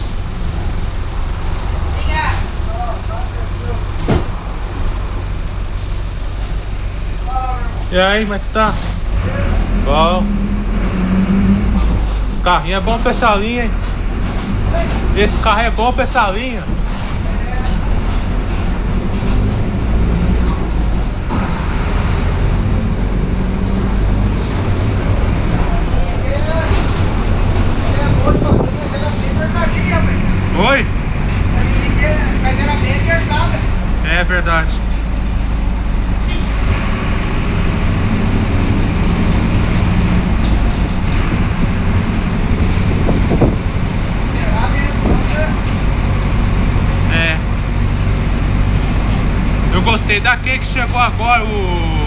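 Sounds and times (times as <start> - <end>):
bus diesel engine drone: 0.0 - 52.0
road noise: 0.0 - 52.0.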